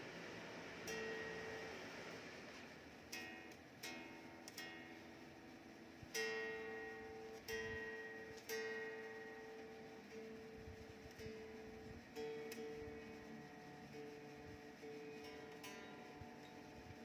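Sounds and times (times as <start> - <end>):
electric guitar notes ringing: 0.0 - 2.2, 3.0 - 17.0.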